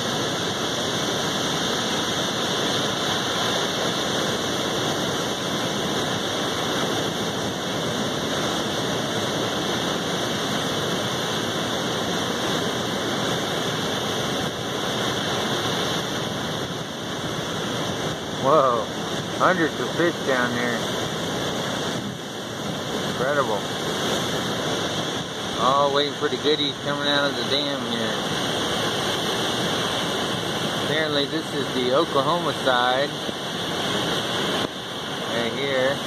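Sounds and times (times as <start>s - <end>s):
water rushing below dam: 0.0s - 36.0s.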